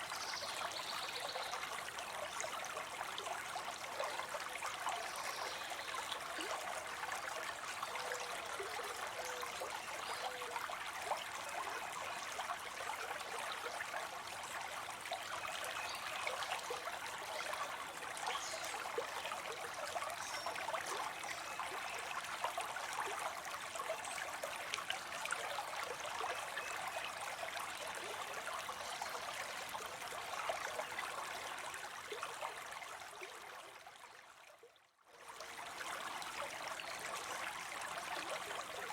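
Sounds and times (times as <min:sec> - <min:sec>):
water trickling into pond: 0:00.0 - 0:38.9.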